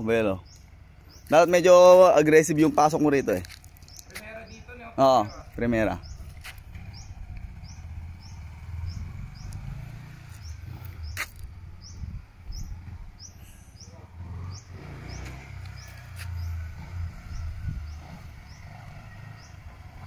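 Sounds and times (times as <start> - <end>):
distant dirt bike engine: 0.0 - 20.0.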